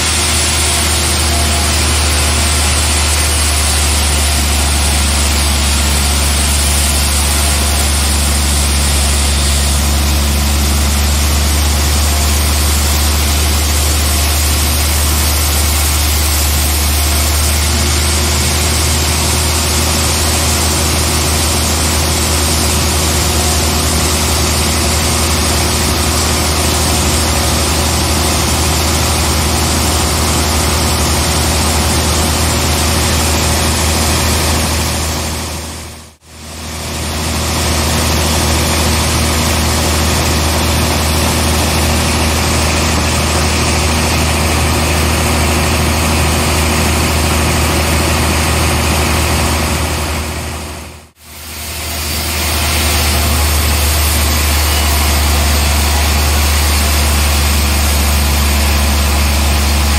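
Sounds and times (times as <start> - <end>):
band saw droning: 0.0 - 59.9.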